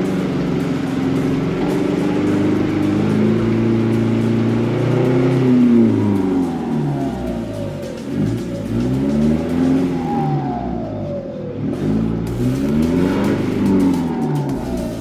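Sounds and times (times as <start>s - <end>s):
off-road engine revving under load: 0.0s - 15.0s.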